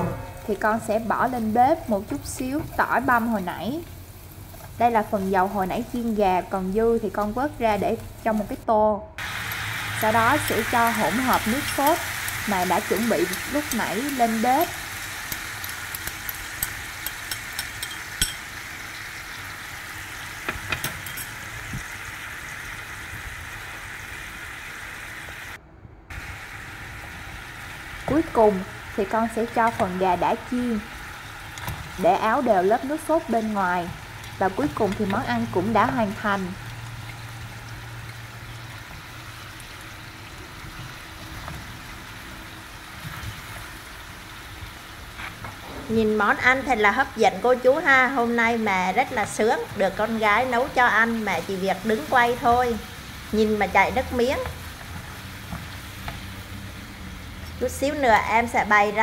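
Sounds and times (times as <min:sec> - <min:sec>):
sauce sizzling in a frying pan: 0:00.4 - 0:08.6, 0:09.2 - 0:59.0.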